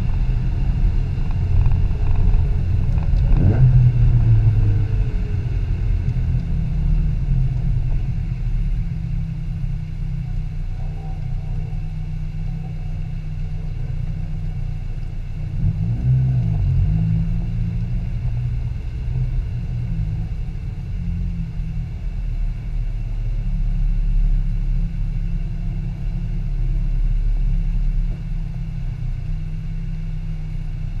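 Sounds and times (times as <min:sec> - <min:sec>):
car engine at low revs: 0:00.0 - 0:31.0.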